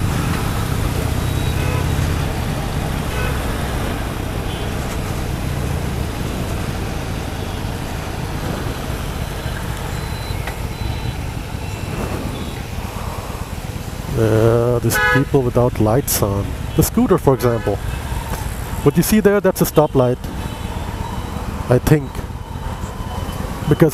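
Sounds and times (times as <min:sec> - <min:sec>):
motorcycle engine rumbling: 0:00.0 - 0:23.9
tyres on wet road: 0:00.0 - 0:23.9.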